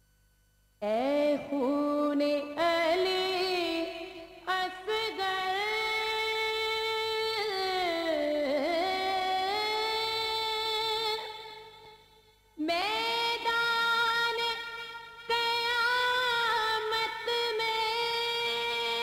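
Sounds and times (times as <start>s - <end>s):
woman singing a lament: 0.8s - 12.0s, 12.6s - 19.0s.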